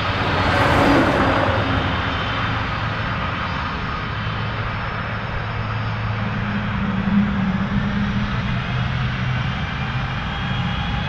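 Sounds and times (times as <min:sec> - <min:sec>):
jet engines roaring: 0:00.0 - 0:11.0
low engine hum: 0:00.0 - 0:11.0.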